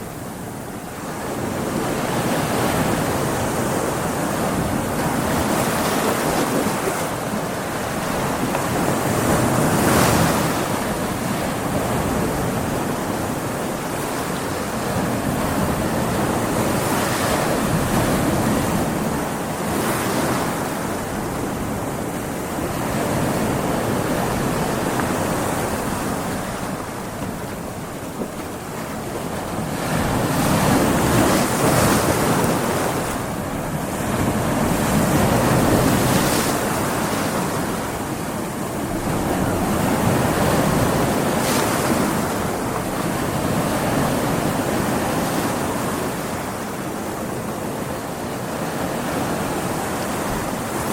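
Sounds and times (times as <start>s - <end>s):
waves breaking in rough surf: 0.0s - 50.9s
wind: 0.0s - 50.9s.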